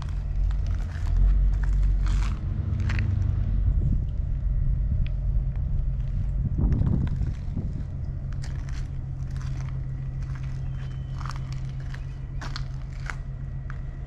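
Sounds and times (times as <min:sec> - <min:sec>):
footsteps crunching on pavement: 0:00.0 - 0:03.6, 0:05.0 - 0:14.0
steady low hum: 0:00.0 - 0:14.0.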